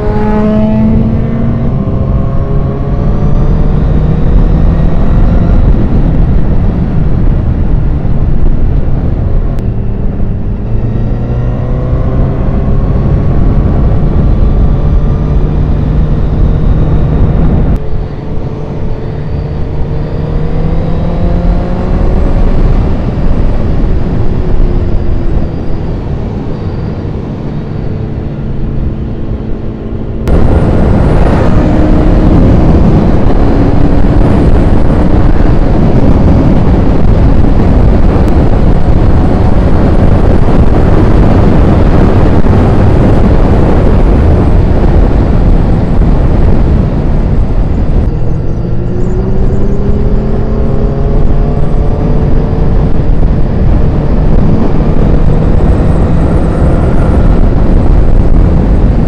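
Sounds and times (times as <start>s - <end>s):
heavy wind noise on microphone: 0.0s - 59.0s
motorcycle engine at speed: 0.0s - 59.0s.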